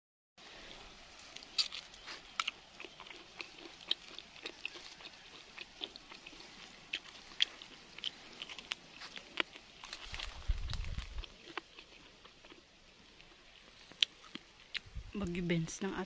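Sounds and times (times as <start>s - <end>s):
crisp fruit crunching: 0.9s - 14.9s.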